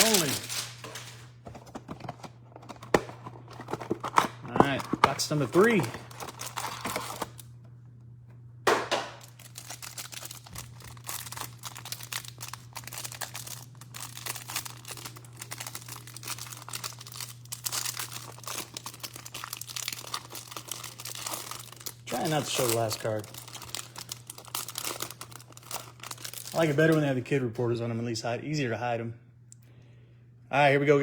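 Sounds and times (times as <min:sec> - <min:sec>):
plastic wrap and cardboard crinkling: 0:00.0 - 0:07.5, 0:09.2 - 0:27.2.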